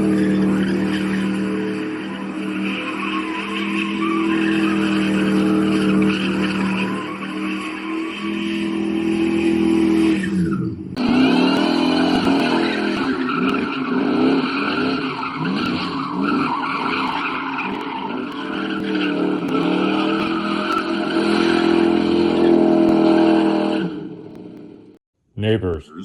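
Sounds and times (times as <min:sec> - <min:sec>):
tires squealing on pavement: 0:00.0 - 0:24.9
car engines revving: 0:00.0 - 0:25.0.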